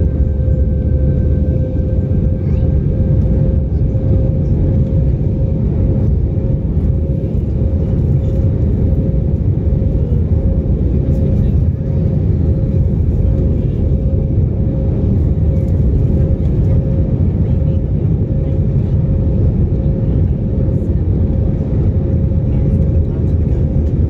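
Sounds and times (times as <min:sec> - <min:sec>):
aircraft engine and airflow roar: 0:00.0 - 0:24.0
constant hum-like tone: 0:00.0 - 0:24.0.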